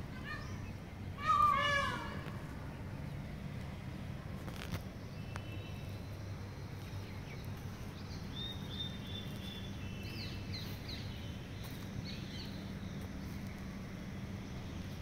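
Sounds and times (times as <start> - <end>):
small birds chirping: 0.0 - 3.4, 4.4 - 15.0
steady low hum: 0.0 - 15.0.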